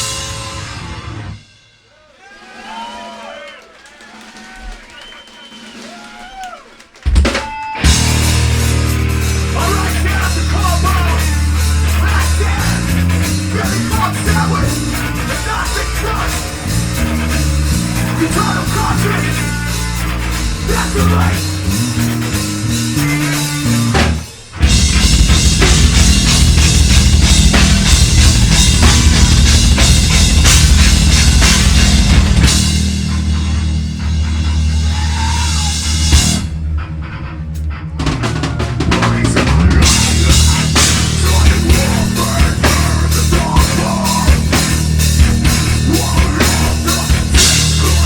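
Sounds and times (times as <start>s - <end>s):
live heavy metal band playing: 0.0s - 1.7s, 7.2s - 48.0s.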